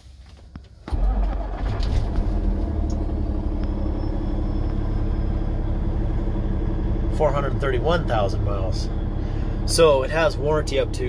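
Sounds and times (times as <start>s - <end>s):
diesel truck engine starting and idling: 0.7s - 11.0s.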